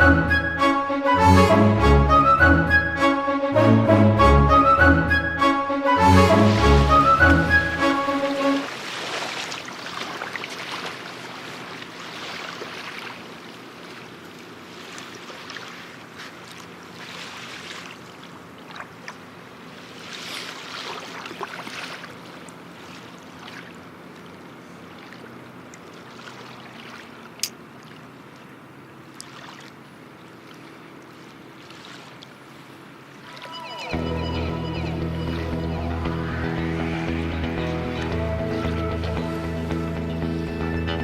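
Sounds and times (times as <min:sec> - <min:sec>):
tugboat engine droning: 0:00.0 - 0:26.7, 0:32.6 - 0:41.0
water rushing and surging: 0:03.0 - 0:40.7.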